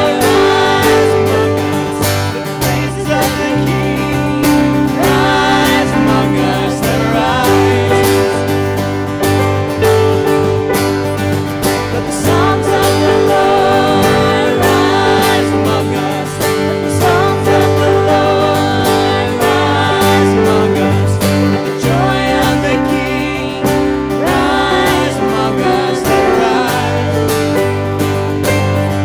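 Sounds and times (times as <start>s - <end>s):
people singing: 0.0s - 28.3s
worship band playing: 0.0s - 29.0s.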